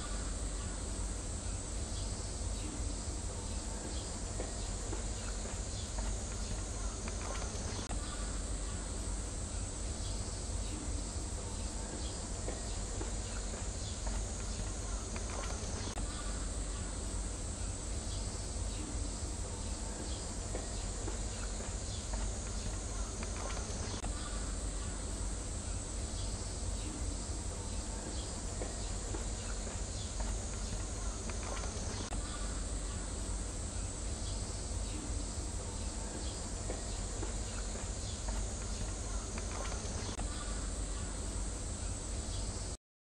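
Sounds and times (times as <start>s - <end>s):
even hiss: 0.0s - 42.8s
insects buzzing: 0.0s - 42.8s.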